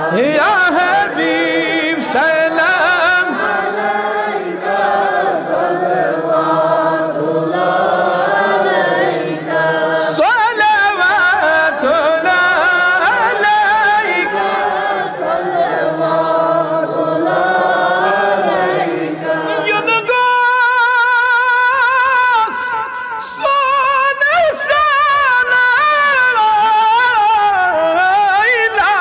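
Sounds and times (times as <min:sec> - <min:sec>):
male voice singing with vibrato: 0:00.0 - 0:29.0
men and boys singing together: 0:00.0 - 0:29.0.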